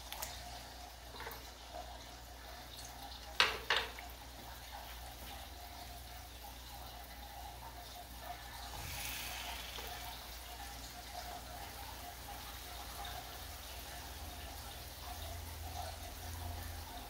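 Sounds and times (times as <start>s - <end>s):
hot oil sizzling and bubbling: 0.0s - 17.0s.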